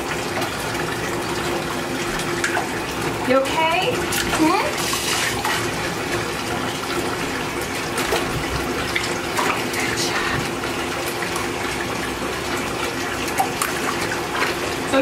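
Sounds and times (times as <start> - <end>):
small water splashes: 0.0 - 15.0
water running from a tap: 0.0 - 15.0.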